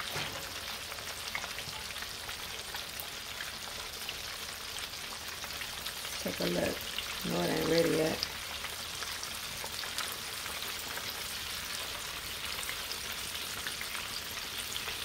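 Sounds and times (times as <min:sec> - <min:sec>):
deep-frying sizzle and crackles: 0:00.0 - 0:15.0.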